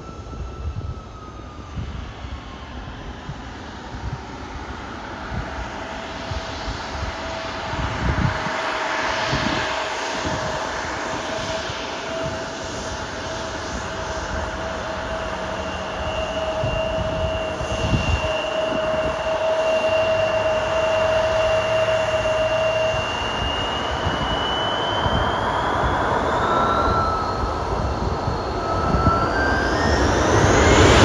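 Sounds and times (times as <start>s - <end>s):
higher engine whine: 0.0s - 31.0s
jet engines whining: 0.0s - 31.0s
wind buffeting microphone: 0.1s - 31.0s.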